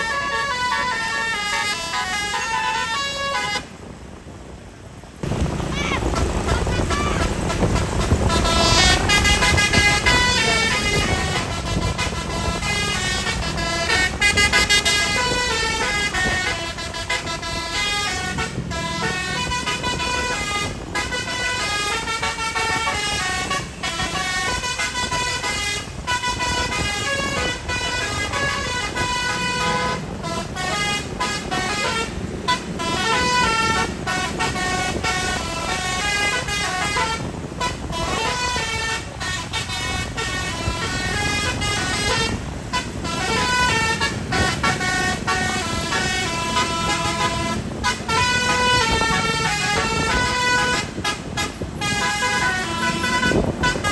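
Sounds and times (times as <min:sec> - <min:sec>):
multi-tone bus horn melody: 0:00.0 - 0:04.4, 0:05.2 - 0:53.9.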